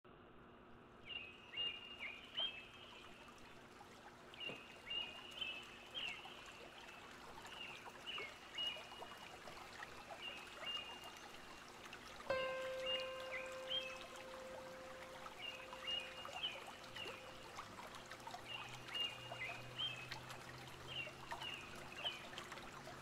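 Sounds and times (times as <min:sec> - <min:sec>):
faint steady hiss: 0:00.2 - 0:23.0.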